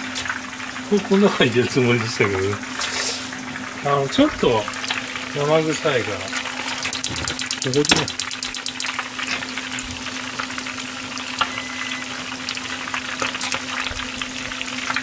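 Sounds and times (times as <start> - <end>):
fish deep-frying in oil: 0.0 - 15.0.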